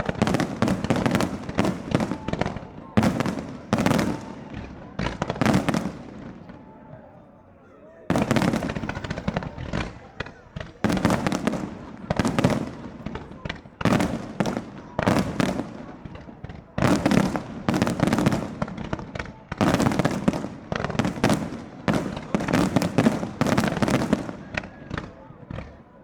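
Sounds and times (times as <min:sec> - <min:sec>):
fireworks bursting and crackling: 0:00.0 - 0:06.8, 0:08.1 - 0:26.0.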